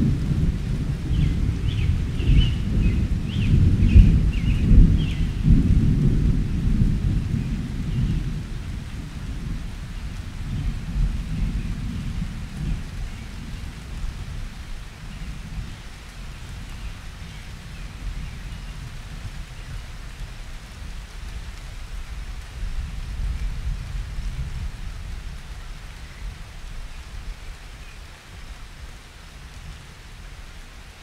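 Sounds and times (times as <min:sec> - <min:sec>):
wind buffeting microphone: 0:00.0 - 0:30.7.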